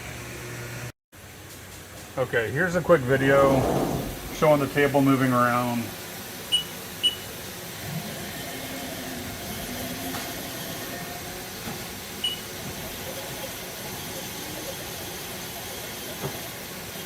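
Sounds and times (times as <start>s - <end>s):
machine mechanical whir: 3.1s - 17.0s.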